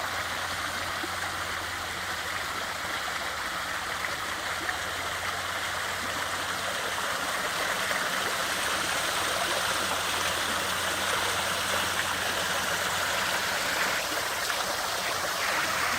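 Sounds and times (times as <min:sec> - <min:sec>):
water pouring over waterfall: 0:00.0 - 0:15.9.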